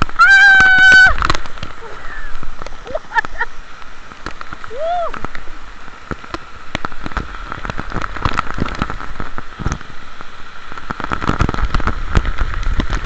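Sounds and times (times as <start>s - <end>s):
river rushing rumble: 0.0s - 13.0s.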